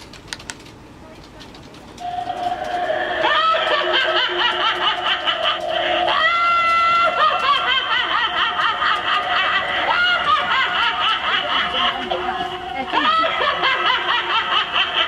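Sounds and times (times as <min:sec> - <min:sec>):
toy speaker cackling laughter: 0:02.0 - 0:15.0.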